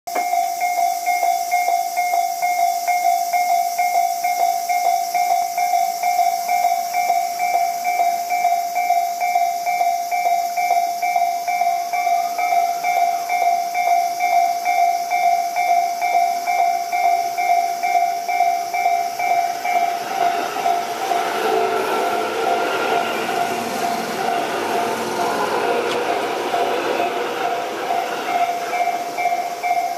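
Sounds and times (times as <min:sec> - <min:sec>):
level-crossing warning bell: 0:00.1 - 0:29.9
train wheels rumbling on rails: 0:00.1 - 0:29.9.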